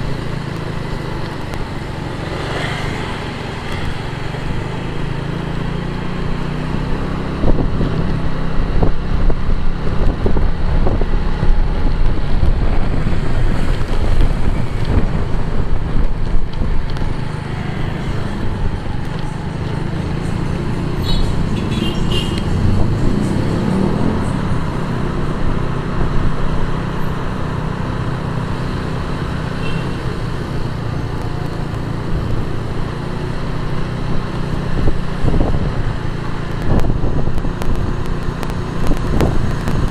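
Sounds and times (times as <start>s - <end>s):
traffic rumble: 0.0s - 39.9s
wind noise on microphone: 6.7s - 17.4s, 18.0s - 26.9s, 27.5s - 39.9s.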